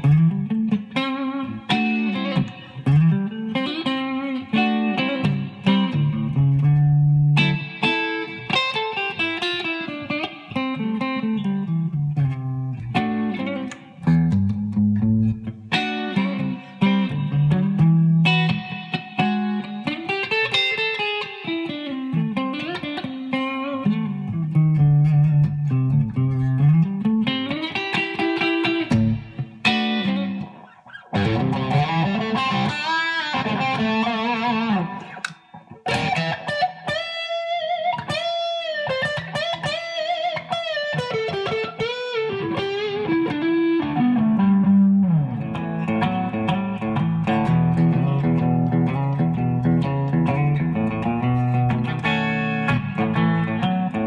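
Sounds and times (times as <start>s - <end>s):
electric guitar lead melody: 0.0s - 54.0s.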